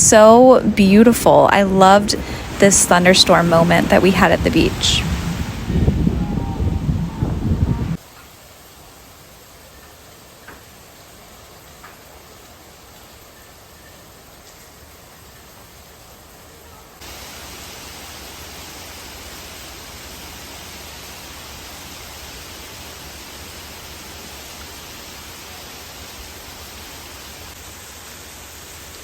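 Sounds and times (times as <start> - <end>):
rain hissing: 0.0 - 29.0.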